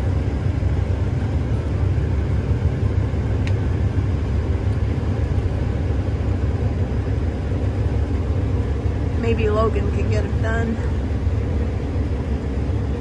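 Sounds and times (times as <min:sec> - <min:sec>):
combine harvester engine rumble: 0:00.0 - 0:13.0.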